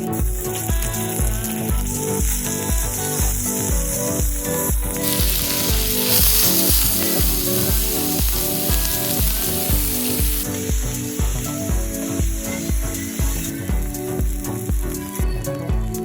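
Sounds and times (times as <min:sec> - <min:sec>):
music with a bass beat: 0:00.0 - 0:16.0
food sizzling in a frying pan: 0:02.4 - 0:15.3.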